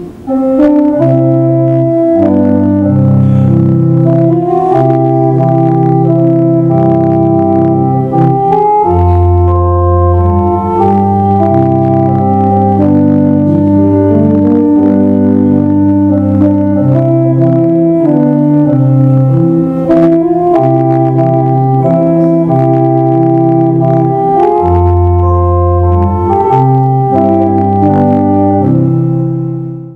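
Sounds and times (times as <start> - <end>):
slow organ chords: 0.0 - 29.9.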